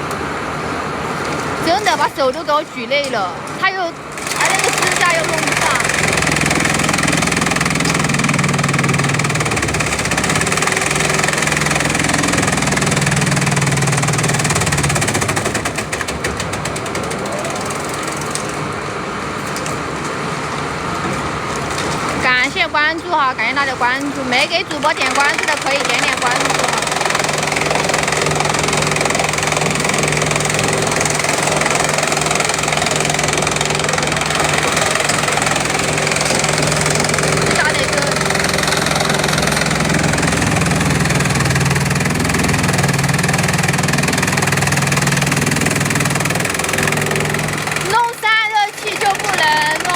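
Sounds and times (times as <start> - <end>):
machine engine humming: 0.0 - 49.9
fast even clatter: 3.5 - 18.8, 24.0 - 49.9
dense rattle: 4.1 - 20.0, 24.3 - 49.9.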